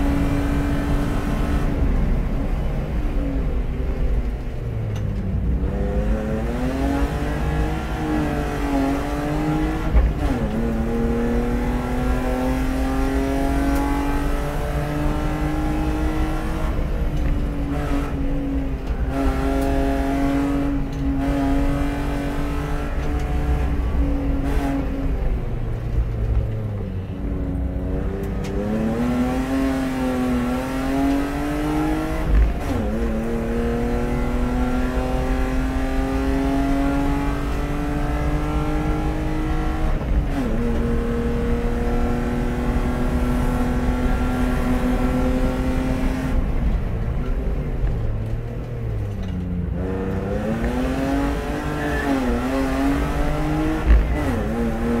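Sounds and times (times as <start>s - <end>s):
car engine revving through gears: 0.0s - 3.3s, 4.0s - 55.0s.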